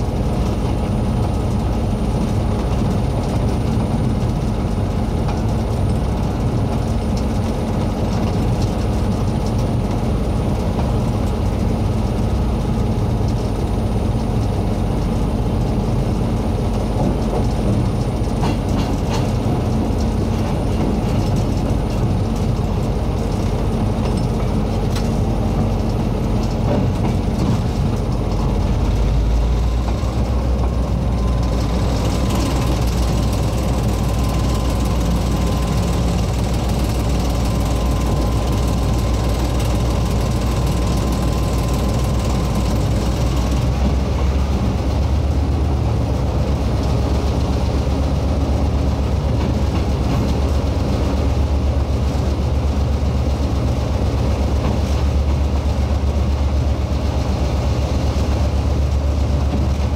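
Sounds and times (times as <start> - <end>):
locomotive engine drone: 0.0 - 59.9
wheels clicking and rattling: 0.0 - 59.9.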